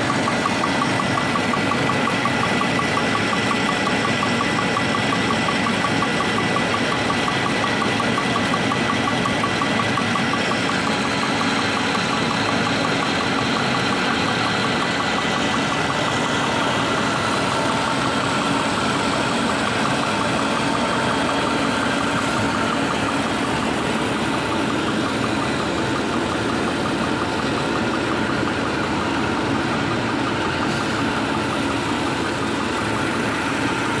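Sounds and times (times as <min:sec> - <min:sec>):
machine running rhythmically: 0:00.0 - 0:34.0.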